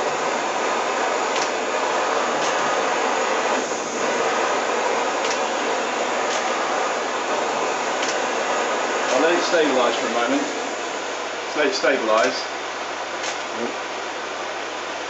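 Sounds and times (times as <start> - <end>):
gas burner flame hissing: 0.0 - 15.0.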